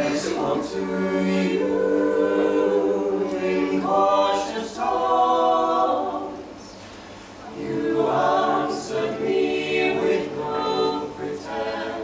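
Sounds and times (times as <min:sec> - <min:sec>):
a cappella group singing harmony: 0:00.0 - 0:06.8, 0:07.4 - 0:12.0.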